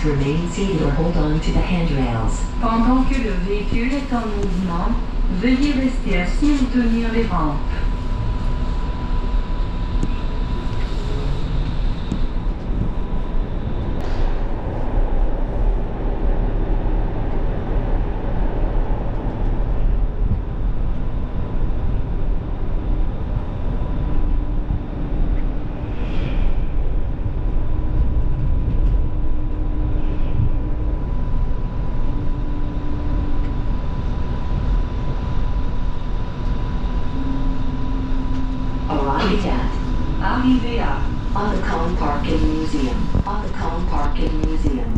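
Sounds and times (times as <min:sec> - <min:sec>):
constant high whine: 0:00.0 - 0:44.9
low drive hum: 0:00.0 - 0:44.9
wheels rumbling on rails: 0:00.0 - 0:44.9.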